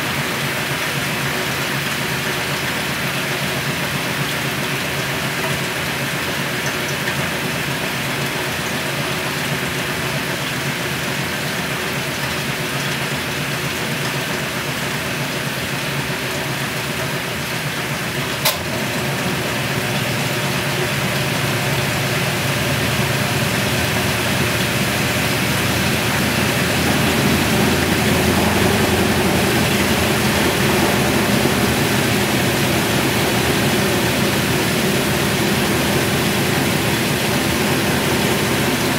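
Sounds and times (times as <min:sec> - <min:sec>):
washing machine spinning: 0:00.0 - 0:38.9
water noise: 0:00.0 - 0:38.9.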